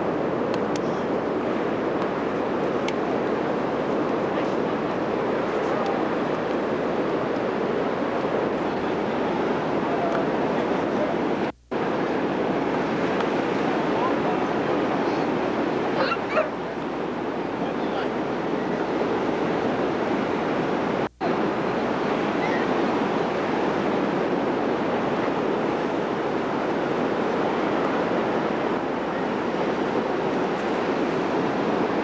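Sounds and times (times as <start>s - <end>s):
ocean surf breaking on beach: 0.0s - 32.0s.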